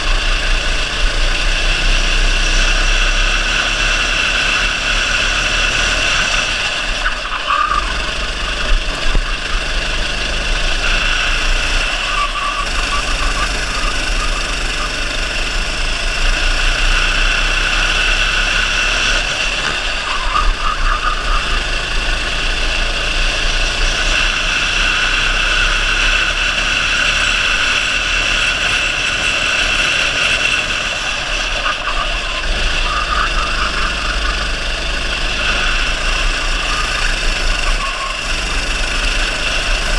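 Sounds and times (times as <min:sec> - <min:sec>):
go-kart engine drone: 0:00.0 - 0:39.9.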